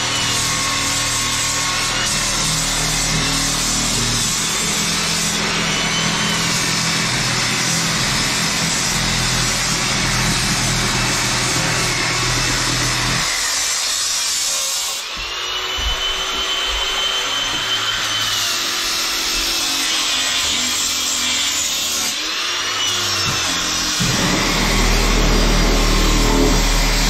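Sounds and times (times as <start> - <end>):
angle grinder cutting: 0.0 - 27.0.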